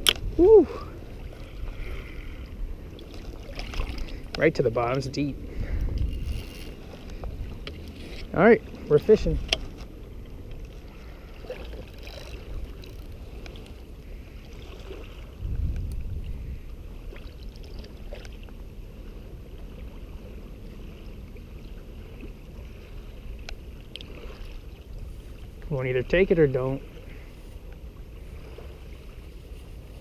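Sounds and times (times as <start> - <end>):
river water lapping: 0.0 - 30.0
wind rumbling on microphone: 0.0 - 30.0.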